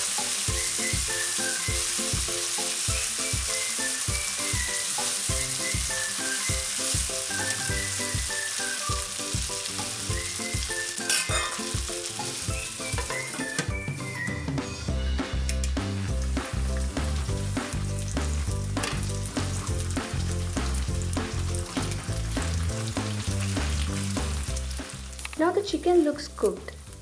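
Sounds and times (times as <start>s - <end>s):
background music with beat: 0.0s - 25.4s
chicken sizzling in oil: 0.0s - 27.0s.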